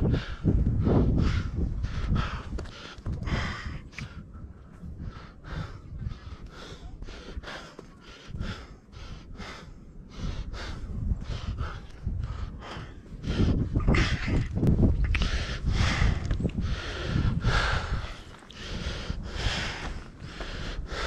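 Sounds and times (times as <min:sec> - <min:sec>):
person breathing hard: 0:00.0 - 0:14.2, 0:15.1 - 0:21.0
wind rumble on microphone: 0:00.0 - 0:21.0.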